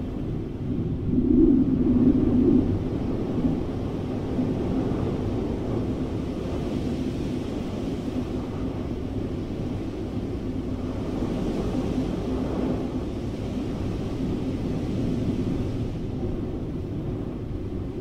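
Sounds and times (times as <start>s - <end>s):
low rumble of rushing air: 0.0s - 18.0s.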